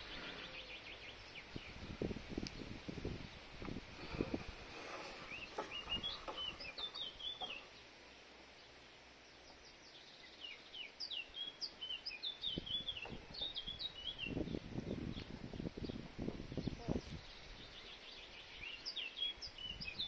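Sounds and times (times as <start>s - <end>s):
songbird chirping: 0.0s - 20.0s.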